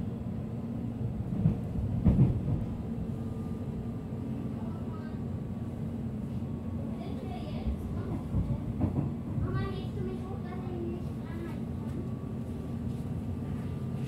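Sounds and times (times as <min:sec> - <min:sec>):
train cabin low hum: 0:00.0 - 0:14.0.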